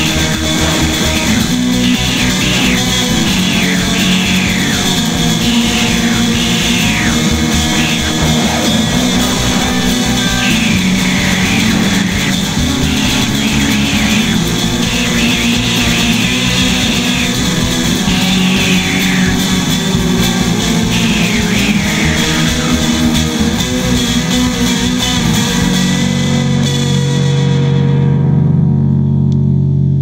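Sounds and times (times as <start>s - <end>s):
rock music with electric guitar: 0.0s - 30.0s.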